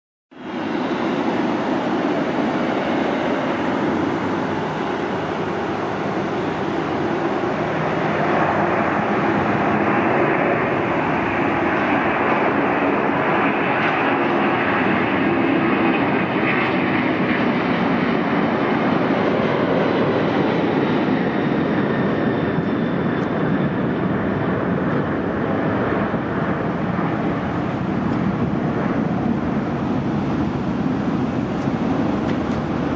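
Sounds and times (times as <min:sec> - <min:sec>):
jet engines at takeoff thrust: 0:00.3 - 0:32.9.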